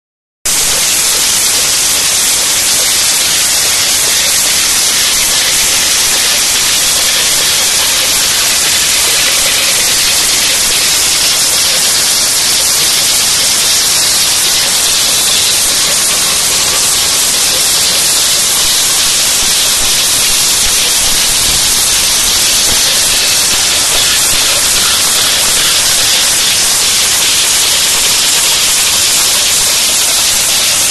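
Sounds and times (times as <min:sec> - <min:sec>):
rewinder machine hissing: 0:00.5 - 0:30.9.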